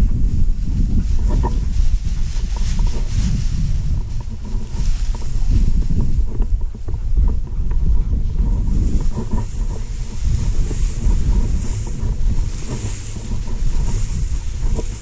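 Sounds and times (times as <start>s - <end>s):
grass swishing against clothing: 0.0s - 15.0s
wind buffeting microphone: 0.0s - 15.0s.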